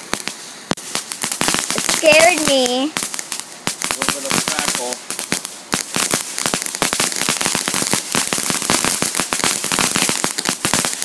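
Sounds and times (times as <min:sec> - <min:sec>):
firework fountain crackling: 0:00.0 - 0:11.0.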